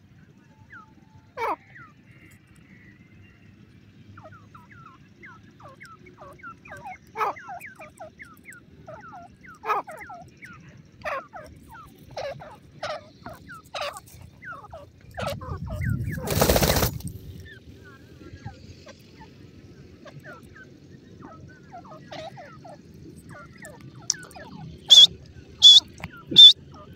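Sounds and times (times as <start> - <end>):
bird calling in rapid chirps: 4.2 - 19.4, 20.0 - 26.9.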